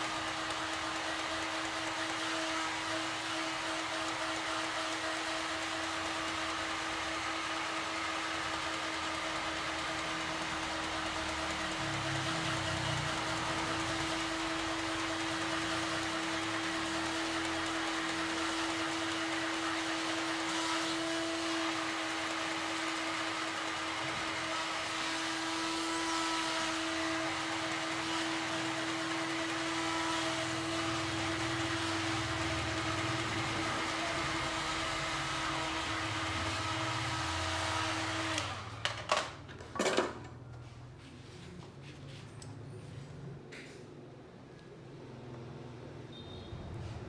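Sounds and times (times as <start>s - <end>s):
small electric motor humming: 0.0s - 38.7s.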